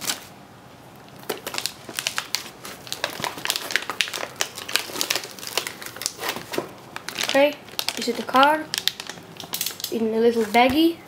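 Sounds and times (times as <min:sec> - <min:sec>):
plastic bag crinkling: 0:01.0 - 0:11.0.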